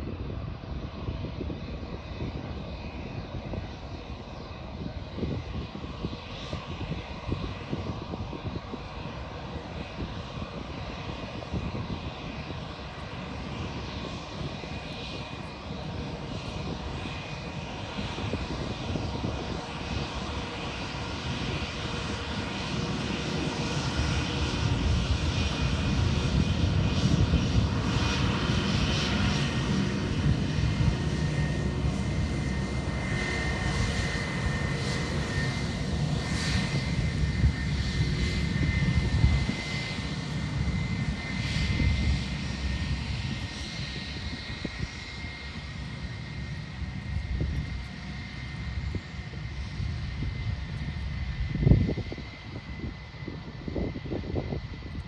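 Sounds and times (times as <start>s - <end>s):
high jet engine whine: 0.0s - 55.0s
jet engines running: 0.0s - 55.0s.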